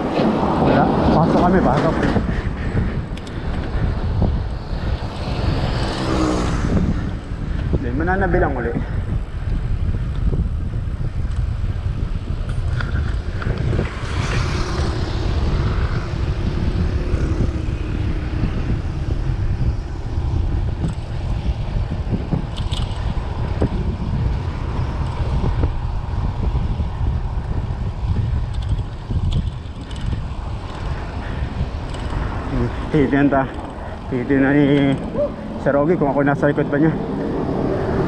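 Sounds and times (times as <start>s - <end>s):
faint traffic hum: 0.0s - 38.0s
wind buffeting microphone: 0.0s - 38.0s.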